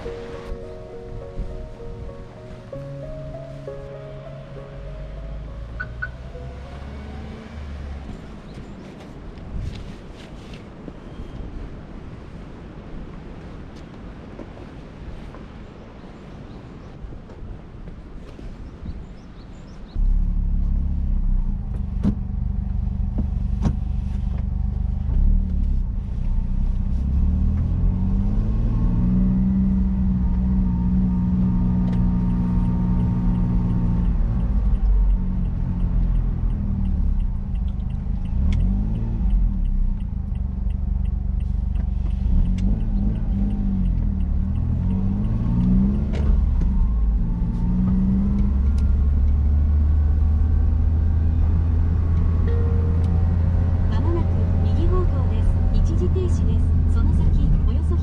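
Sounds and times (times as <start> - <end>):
car engine and exhaust revving: 0.0 - 9.1, 20.0 - 58.0.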